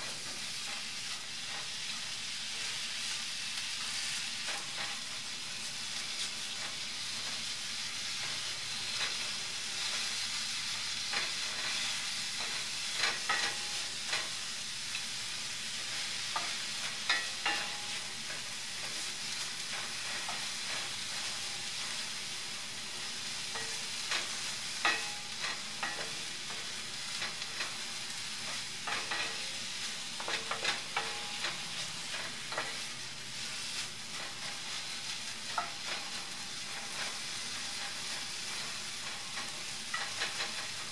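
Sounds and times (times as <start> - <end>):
onions sizzling in a skillet: 0.0 - 40.9
spatula scraping a pan: 5.9 - 14.5, 15.6 - 40.9.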